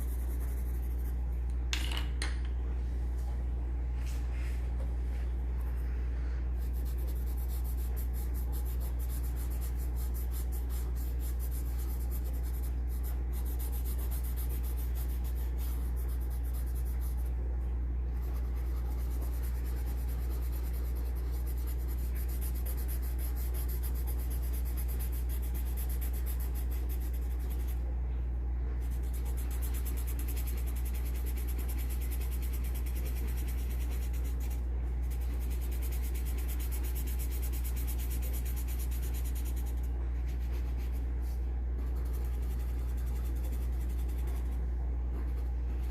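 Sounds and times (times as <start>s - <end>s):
pencil scratching on paper: 0.0s - 1.2s, 6.6s - 17.4s, 18.1s - 27.8s, 28.8s - 45.9s
steady low hum: 0.0s - 45.9s.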